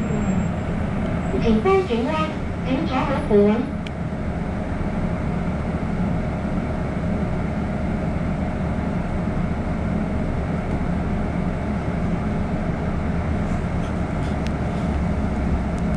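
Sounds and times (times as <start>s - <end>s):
bus engine and road rumble: 0.0s - 15.9s
faint constant whine: 0.0s - 15.9s.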